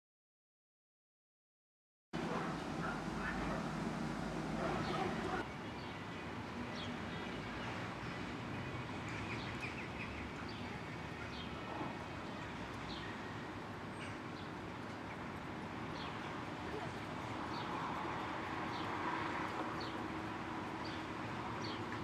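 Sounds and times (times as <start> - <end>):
birds chirping: 2.2 - 22.0
outdoor background noise: 2.2 - 22.0.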